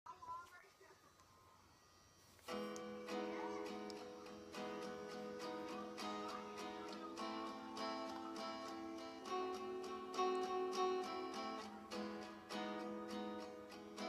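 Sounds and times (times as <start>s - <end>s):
acoustic guitar strumming chords: 2.4s - 14.0s.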